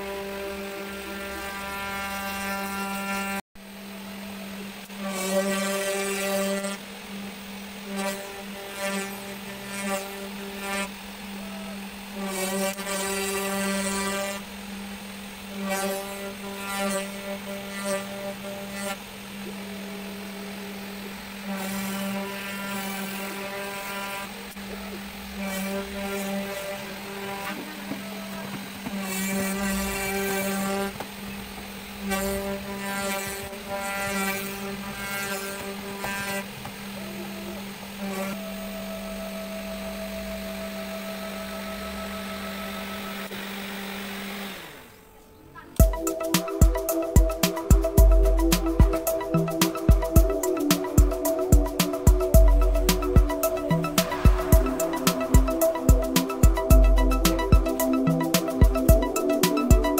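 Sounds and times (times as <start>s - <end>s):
high whine of bit cutting: 0.0s - 59.9s
router spindle humming: 0.0s - 59.9s.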